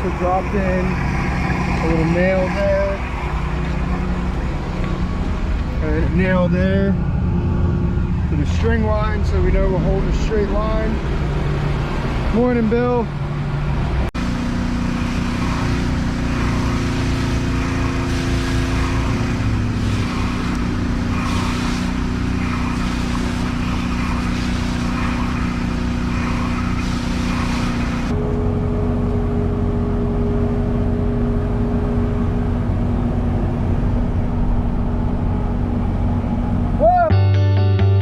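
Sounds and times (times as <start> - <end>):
excavator diesel engine running: 0.0 - 37.1.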